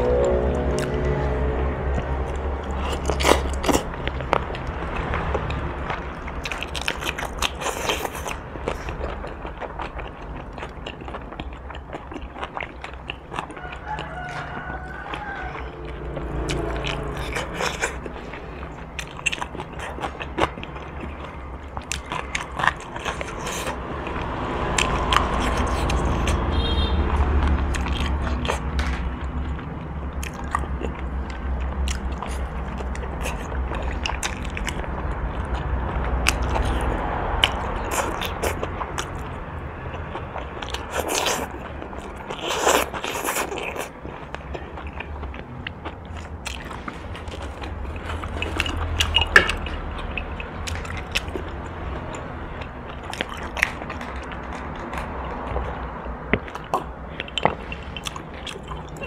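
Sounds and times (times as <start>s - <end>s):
low steady hum: 0.0s - 59.0s
chewing meat off bones: 0.3s - 59.0s.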